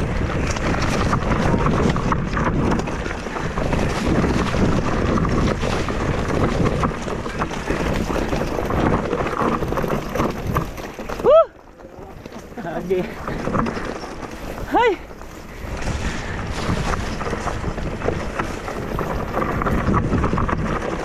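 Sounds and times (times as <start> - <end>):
bike chain and frame rattling: 0.0 - 21.0
tyres crunching over loose rock: 0.0 - 21.0
wheels knocking on stones: 0.0 - 21.0
wind rushing over microphone: 0.0 - 21.0.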